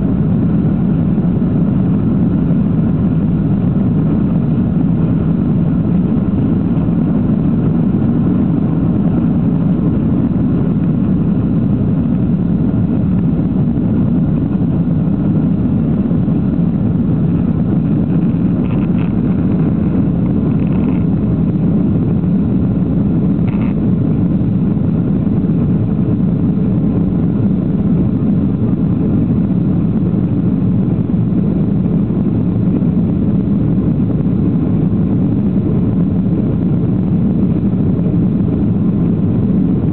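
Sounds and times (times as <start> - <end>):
jet airliner cabin engine noise: 0.0 - 39.9.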